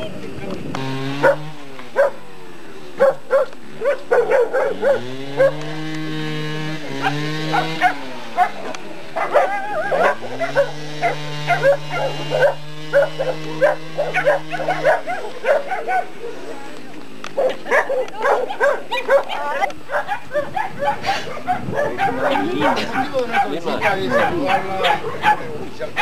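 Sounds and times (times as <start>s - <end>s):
dog barking and yelping: 1.2s - 2.3s, 3.0s - 5.7s, 6.9s - 16.6s, 17.4s - 26.0s.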